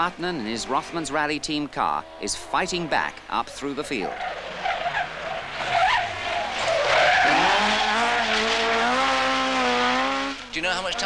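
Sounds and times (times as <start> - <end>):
rally car engine revving: 0.0 - 11.0
tyres squealing: 0.4 - 9.2.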